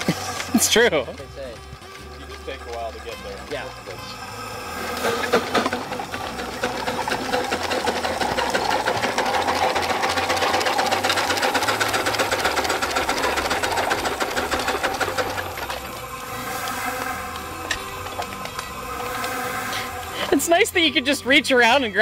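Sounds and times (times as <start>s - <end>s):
steam traction engine beating: 0.0s - 22.0s.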